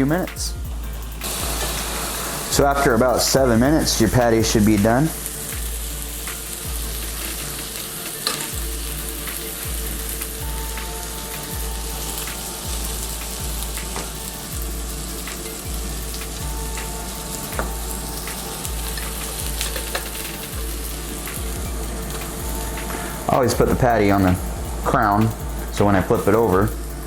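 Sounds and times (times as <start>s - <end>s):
patties sizzling on a grill: 0.0s - 27.0s.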